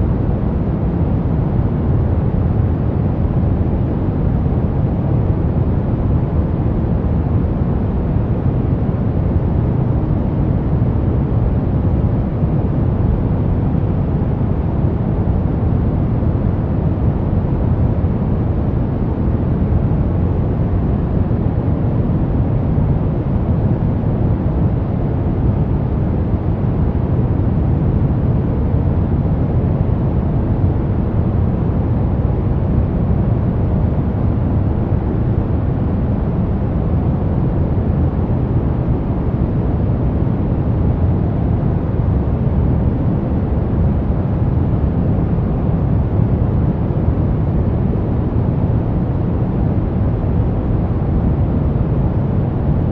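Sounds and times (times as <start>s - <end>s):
brown noise: 0.0s - 52.9s.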